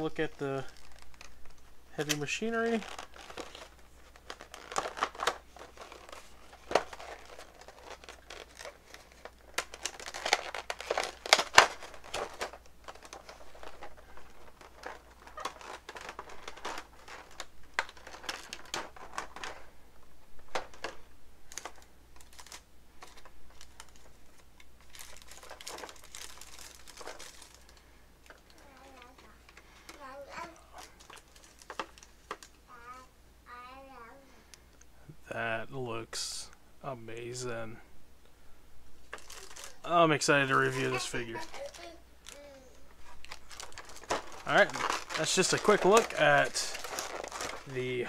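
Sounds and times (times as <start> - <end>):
plastic packaging crinkling: 0.0 - 19.8, 20.4 - 32.7, 39.0 - 48.0.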